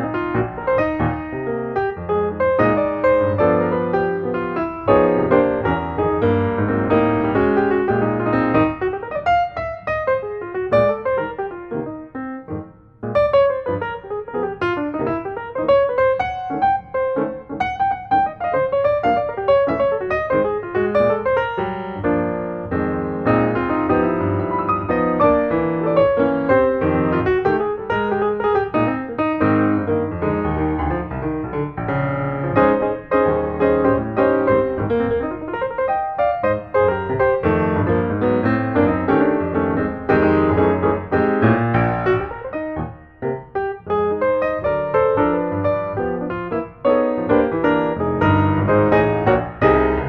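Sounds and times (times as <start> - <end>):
piano music: 0.0 - 50.0.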